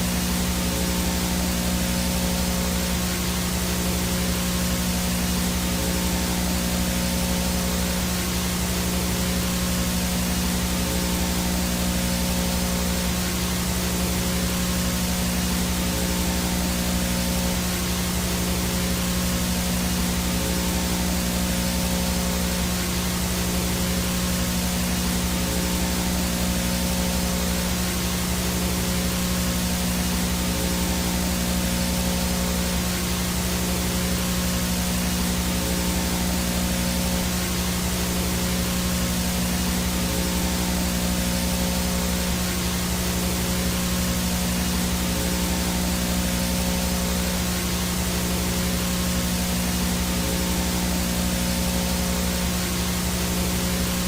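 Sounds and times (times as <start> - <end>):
faint high whine: 0.0 - 54.0
low buzzing hum: 0.0 - 54.0
static hiss: 0.0 - 54.0.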